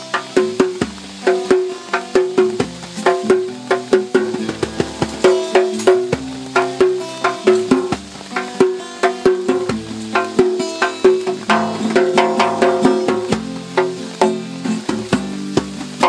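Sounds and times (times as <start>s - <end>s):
hand drum struck with hands: 0.0s - 16.0s.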